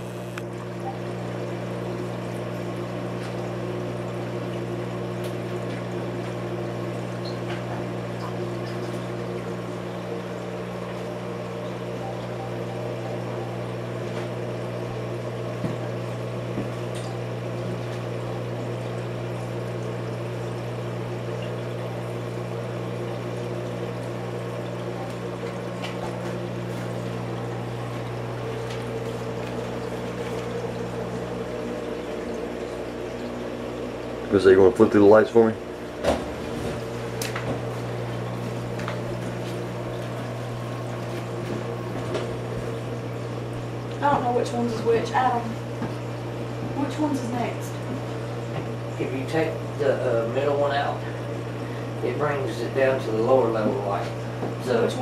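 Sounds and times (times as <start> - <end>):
pump humming: 0.0 - 55.0
water trickling: 0.1 - 55.0.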